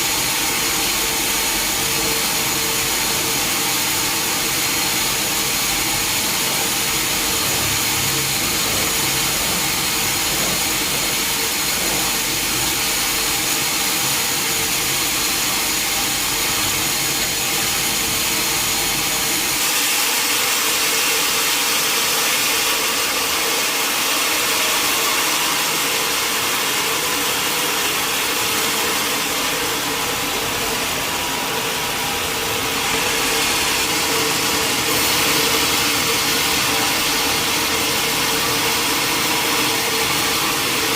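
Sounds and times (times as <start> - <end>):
sawmill machinery whine: 0.0 - 40.9.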